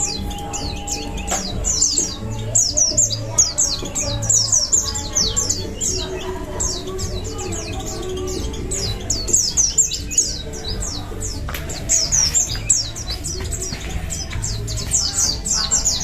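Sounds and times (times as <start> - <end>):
background music: 0.0 - 16.0
birds chirping: 0.0 - 16.0.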